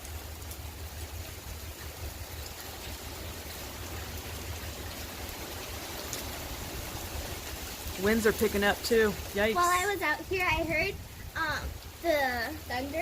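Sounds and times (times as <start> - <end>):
heavy rain hiss: 0.0 - 13.0
wind rumbling on microphone: 0.4 - 8.0, 9.2 - 12.2.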